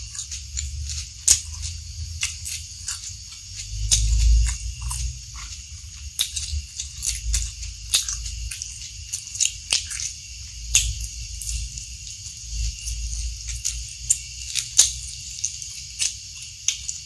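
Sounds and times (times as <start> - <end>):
sticky mouth clicks and smacks: 0.0 - 17.0
wet chewing: 0.0 - 17.0.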